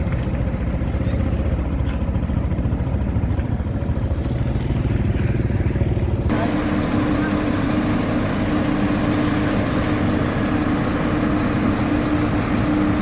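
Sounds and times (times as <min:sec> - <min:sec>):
heavy diesel engine throbbing: 0:00.0 - 0:13.0.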